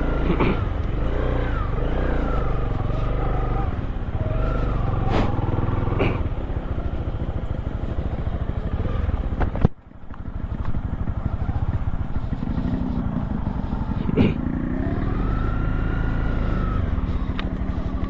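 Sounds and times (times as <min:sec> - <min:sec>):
motorcycle engine throbbing: 0:00.0 - 0:18.0.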